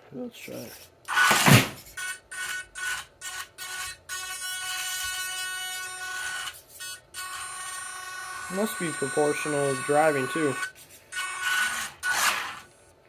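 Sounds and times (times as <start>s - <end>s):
toy car electric motor whine: 0.7s - 12.9s.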